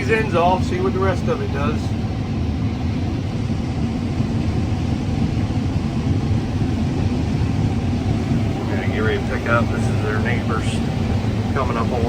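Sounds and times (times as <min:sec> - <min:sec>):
combine harvester drone: 0:00.0 - 0:12.0
faint steady hum: 0:00.0 - 0:12.0.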